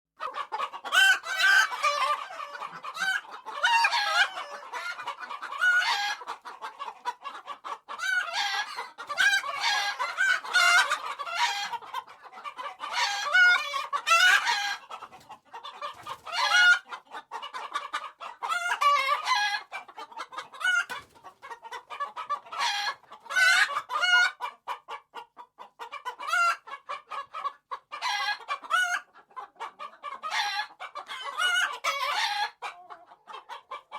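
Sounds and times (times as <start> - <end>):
hens clucking and cackling: 0.2 - 33.9.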